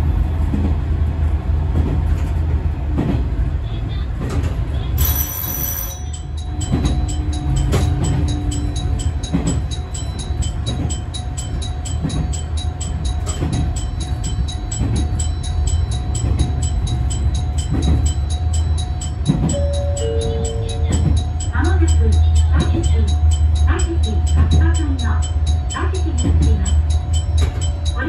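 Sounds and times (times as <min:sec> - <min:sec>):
railcar engine and wheels rumbling: 0:00.0 - 0:28.0.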